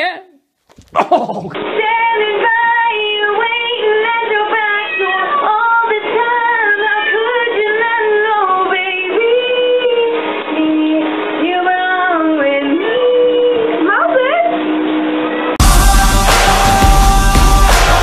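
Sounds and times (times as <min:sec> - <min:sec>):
music: 0:01.6 - 0:18.0.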